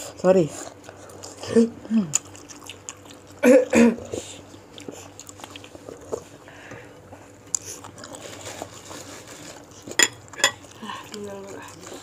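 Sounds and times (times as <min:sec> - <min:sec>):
person chewing: 0:00.5 - 0:12.0.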